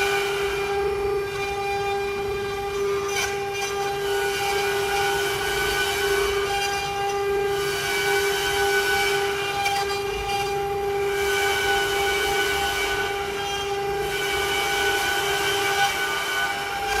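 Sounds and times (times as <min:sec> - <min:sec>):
cutter rushing through wood: 0:00.0 - 0:17.0
router spindle whine: 0:00.0 - 0:17.0.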